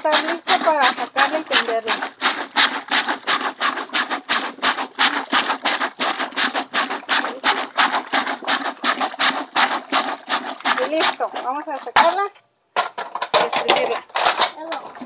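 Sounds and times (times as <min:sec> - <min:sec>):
plunger splashing in water: 0:00.0 - 0:12.3.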